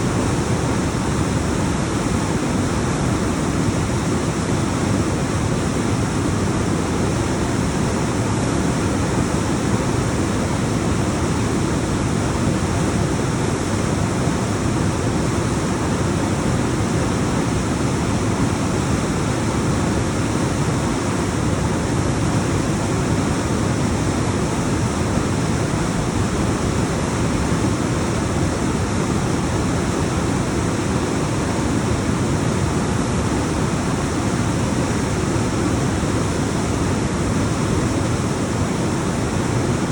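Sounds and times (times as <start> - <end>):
waterfall roaring over rocks: 0.0 - 39.9.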